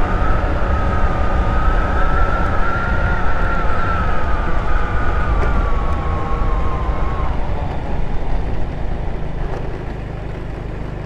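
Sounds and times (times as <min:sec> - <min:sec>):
scooter engine whine: 0:00.0 - 0:11.0
wind rumble on microphone: 0:00.0 - 0:11.0.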